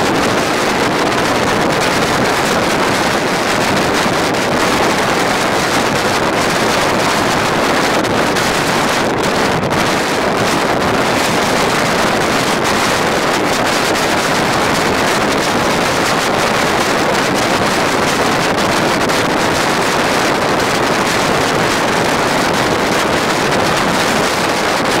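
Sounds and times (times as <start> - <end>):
train running noise: 0.0 - 25.0
wind buffeting microphone: 0.0 - 25.0.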